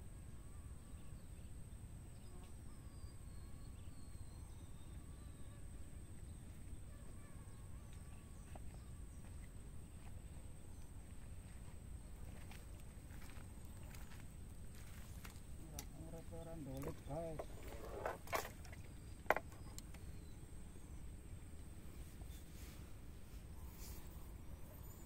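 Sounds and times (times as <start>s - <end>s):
insect drone: 0.0s - 25.0s.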